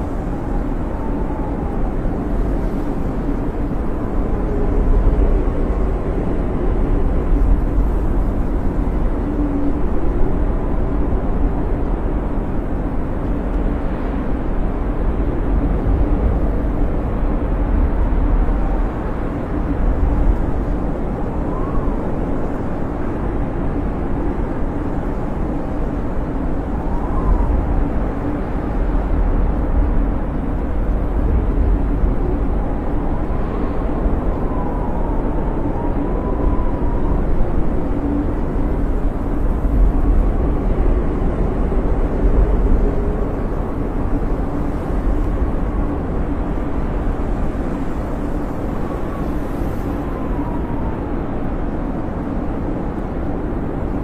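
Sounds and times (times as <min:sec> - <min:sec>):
snowstorm wind rushing: 0:00.0 - 0:54.0
wind whistling: 0:00.0 - 0:54.0.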